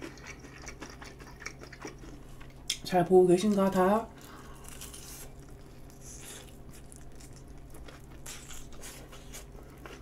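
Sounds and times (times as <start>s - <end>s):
chewing fried chicken: 0.0s - 2.8s, 3.4s - 10.0s.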